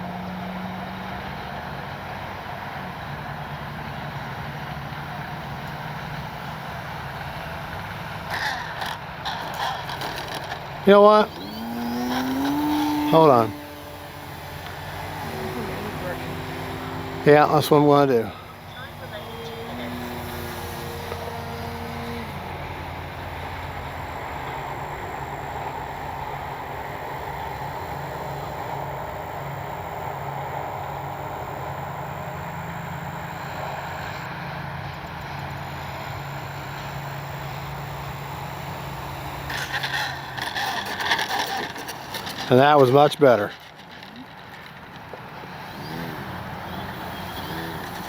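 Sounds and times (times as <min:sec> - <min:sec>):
low outdoor rumbling: 0:00.0 - 0:48.0
electric motor and propeller humming: 0:05.6 - 0:48.0.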